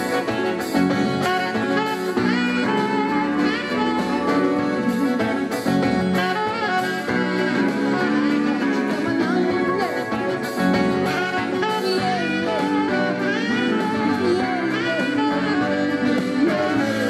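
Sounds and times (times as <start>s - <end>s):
rock band playing: 0.0s - 17.0s
saxophone solo: 0.0s - 17.0s
steady drum beat: 0.0s - 17.0s.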